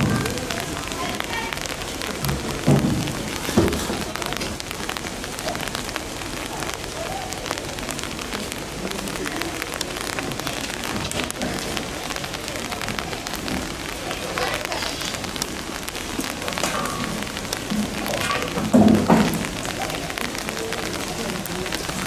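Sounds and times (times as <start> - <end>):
rain on hard surfaces: 0.0 - 22.0.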